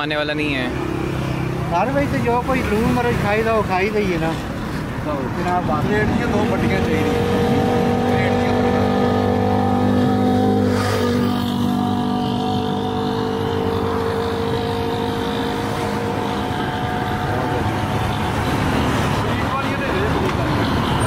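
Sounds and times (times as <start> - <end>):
road noise: 0.0 - 21.0
vehicle engine humming: 0.3 - 21.0.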